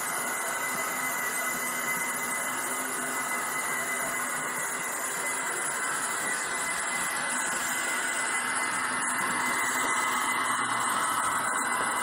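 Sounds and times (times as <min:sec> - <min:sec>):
high-pitched screech: 0:00.0 - 0:12.0
model railcar running on track: 0:00.0 - 0:12.0.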